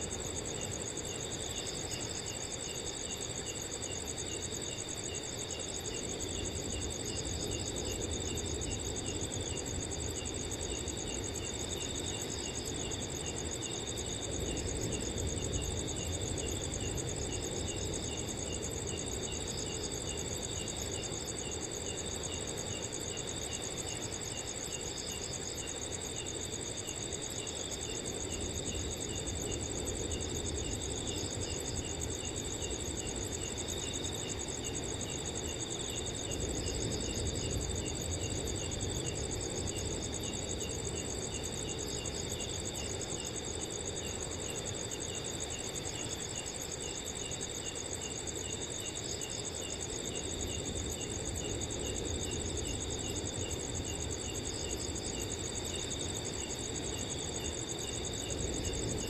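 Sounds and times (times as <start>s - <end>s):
cricket chirping in a regular pulse: 0.0s - 59.0s
crickets trilling: 0.0s - 59.0s.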